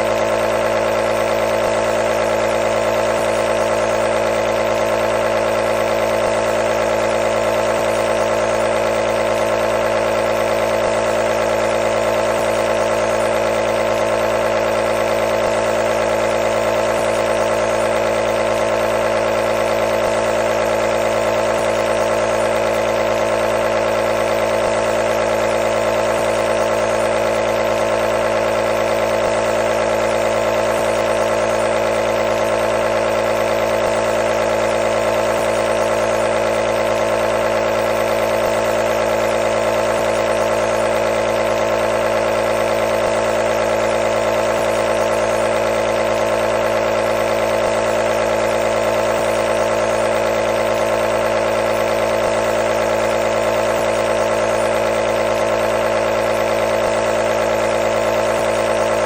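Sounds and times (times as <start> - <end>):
compressor motor humming: 0.0 - 59.0.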